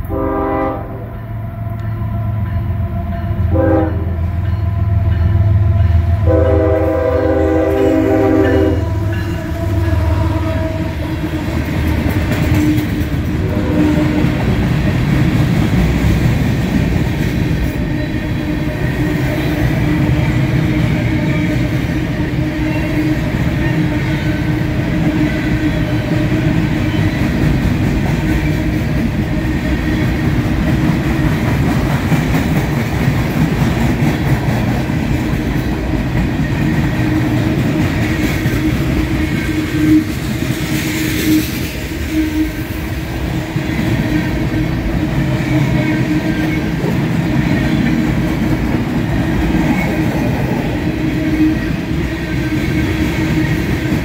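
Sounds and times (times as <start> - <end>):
train wheels clattering on rails: 7.5 - 54.0.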